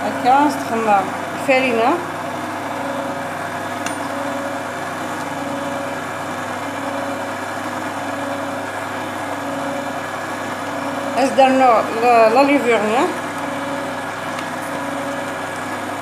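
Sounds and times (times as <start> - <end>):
stand mixer whisking batter: 0.0 - 16.0.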